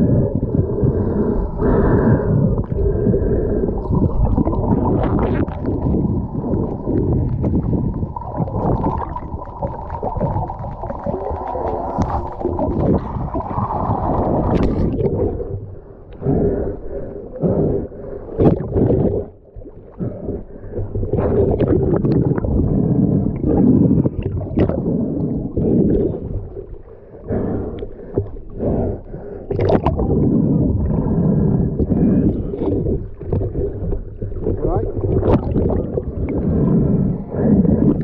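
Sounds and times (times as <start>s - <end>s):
muffled underwater water rush: 0.0s - 38.0s.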